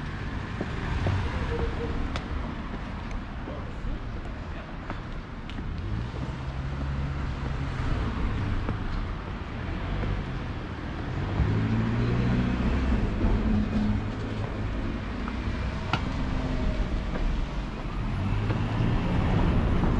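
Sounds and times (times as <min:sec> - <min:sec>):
road traffic passing: 0:00.0 - 0:19.9.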